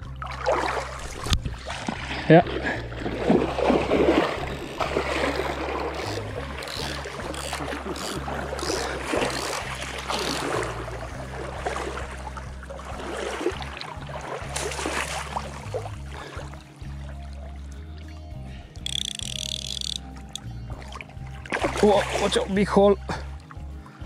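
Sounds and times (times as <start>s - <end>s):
river water splashing: 0.0s - 24.0s.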